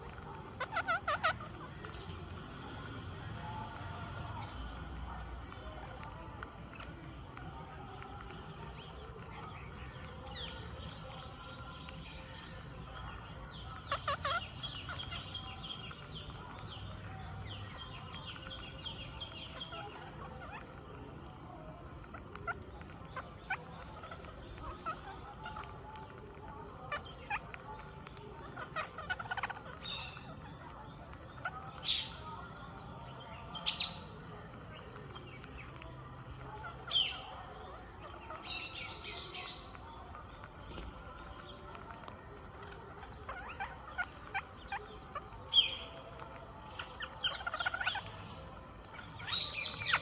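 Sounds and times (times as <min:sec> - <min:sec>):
parakeets chattering calls: 0:00.0 - 0:50.0.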